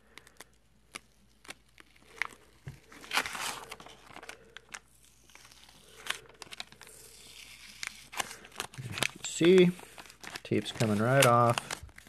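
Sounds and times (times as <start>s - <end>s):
tape peeling and crinkling: 0.0s - 12.0s.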